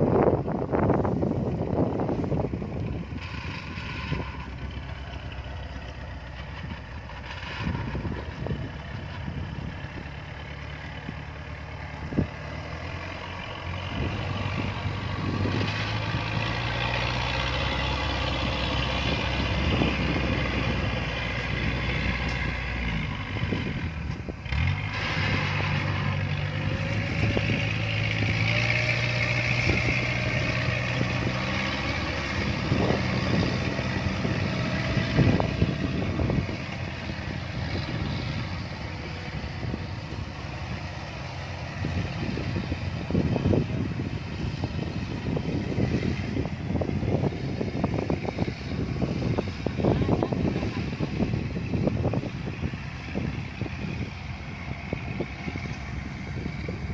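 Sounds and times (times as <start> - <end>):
combine harvester diesel engine: 0.0 - 56.9.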